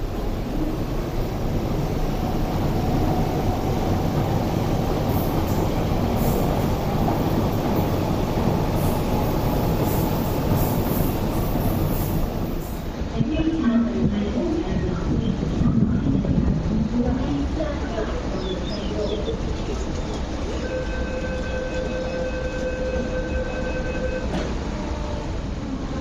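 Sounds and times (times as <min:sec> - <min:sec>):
train wheels rolling on rail: 0:00.0 - 0:26.0.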